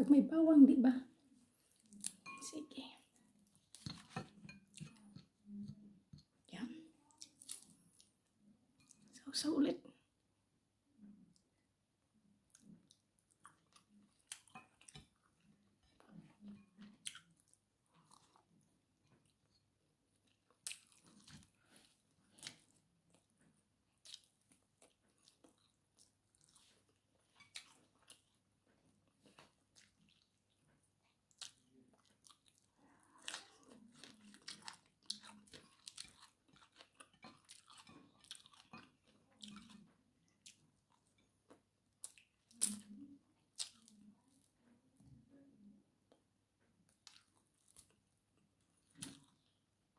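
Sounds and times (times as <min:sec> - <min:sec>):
person chewing food: 0:01.2 - 0:02.4, 0:03.1 - 0:06.4, 0:07.0 - 0:09.1, 0:12.4 - 0:44.5, 0:46.1 - 0:49.7.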